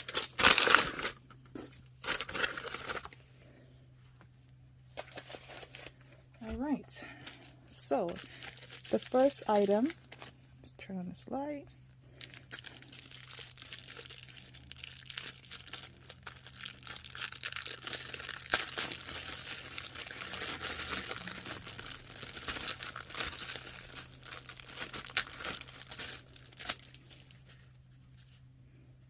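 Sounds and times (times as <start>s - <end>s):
packaging crackling and rustling: 0.0s - 3.2s, 4.9s - 6.0s, 6.6s - 10.4s, 12.2s - 28.4s.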